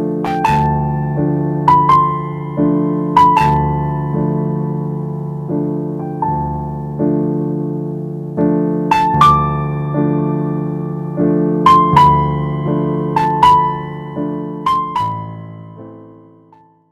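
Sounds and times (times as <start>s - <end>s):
higher melody notes: 0.0s - 7.4s, 8.9s - 16.2s
slow piano chords: 0.0s - 16.9s.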